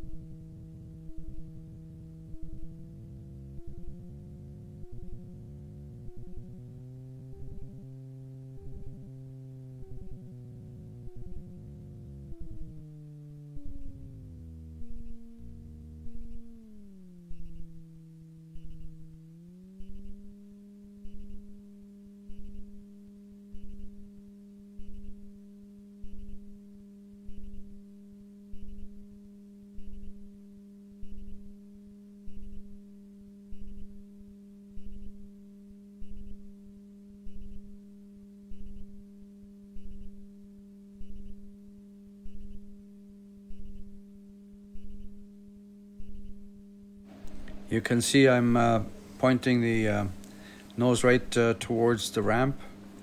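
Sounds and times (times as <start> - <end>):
propeller aircraft engine humming: 0.0 - 53.0
regular low pulse: 0.0 - 53.0.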